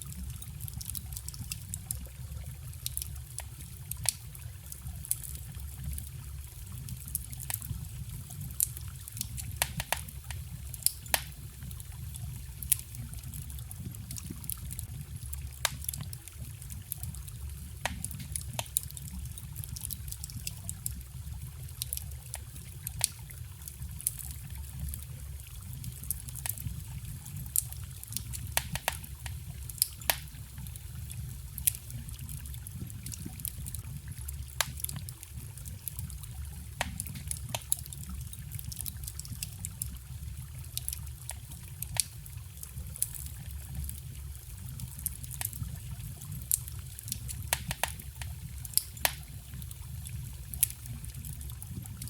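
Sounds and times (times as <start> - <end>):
bonfire crackling and popping: 0.0 - 52.0
trickling stream: 0.0 - 52.0.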